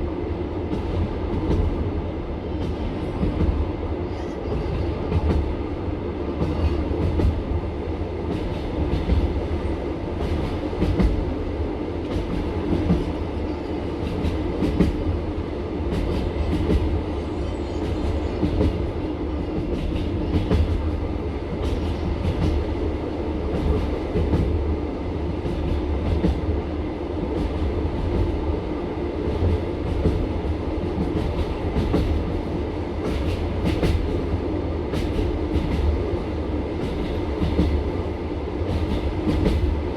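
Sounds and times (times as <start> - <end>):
train running gear rumble: 0.0 - 39.9.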